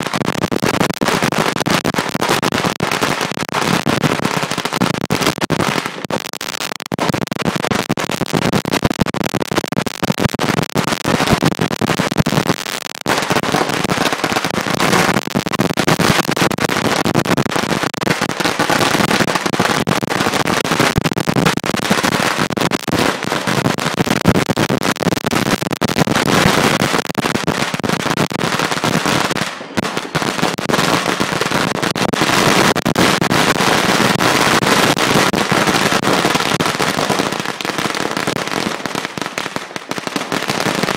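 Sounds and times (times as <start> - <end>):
firecrackers cracking and banging: 0.0 - 40.9.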